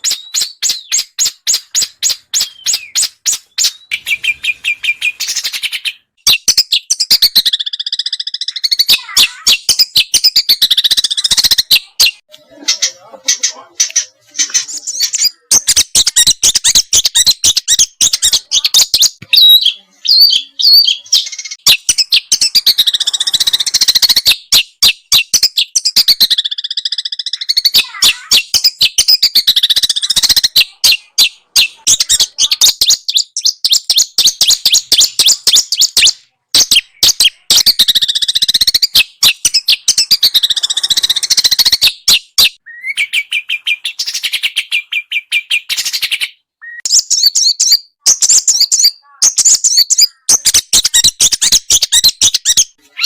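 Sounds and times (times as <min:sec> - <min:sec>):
songbird chattering song: 0:00.0 - 0:53.0.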